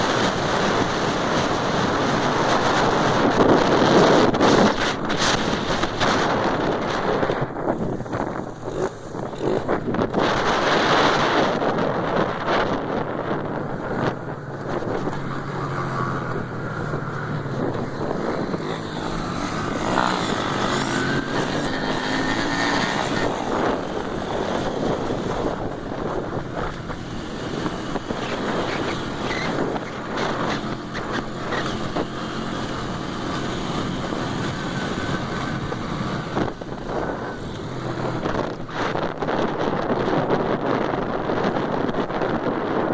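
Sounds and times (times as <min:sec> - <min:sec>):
motorcycle engines running: 0:00.0 - 0:42.9
wind noise on microphone: 0:00.0 - 0:42.9.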